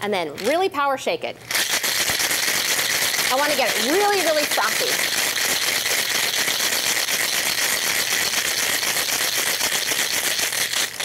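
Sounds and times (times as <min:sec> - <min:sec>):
ice rattling in cocktail shaker: 0:01.5 - 0:11.0.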